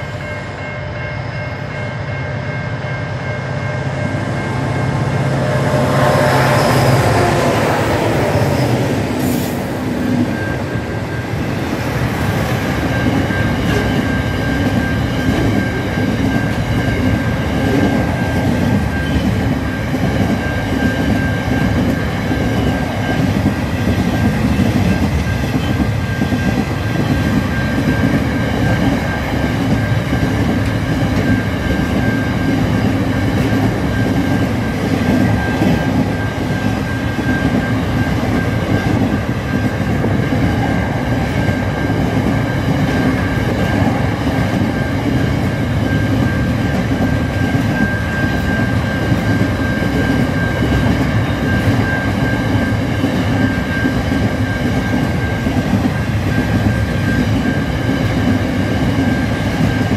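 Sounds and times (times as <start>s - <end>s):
high-pitched ring: 0.0s - 59.9s
train wheels rumbling on rails: 0.0s - 59.9s.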